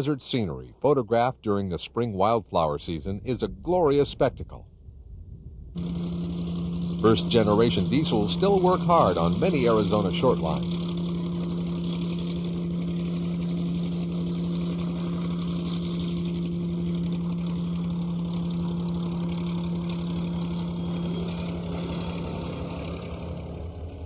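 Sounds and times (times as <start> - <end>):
diesel locomotive engine droning: 0.0 - 24.0.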